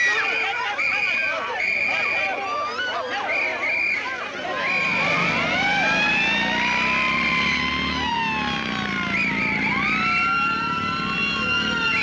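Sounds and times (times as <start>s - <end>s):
trilling whistle: 0.0s - 7.2s, 8.5s - 12.0s
motorcycle sirens wailing: 0.0s - 12.0s.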